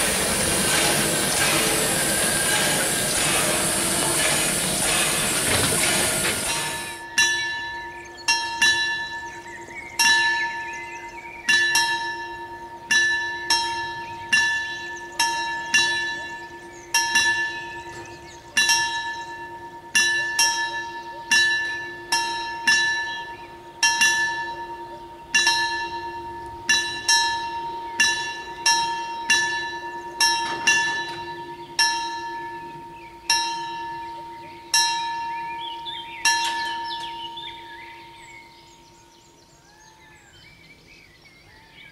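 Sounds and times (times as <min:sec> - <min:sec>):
level-crossing warning bell: 0:00.0 - 0:39.4.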